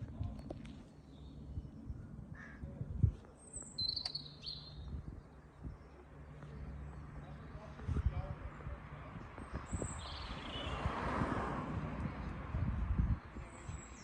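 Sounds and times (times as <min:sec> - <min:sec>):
birds chirping: 0:00.0 - 0:11.0, 0:12.0 - 0:14.0.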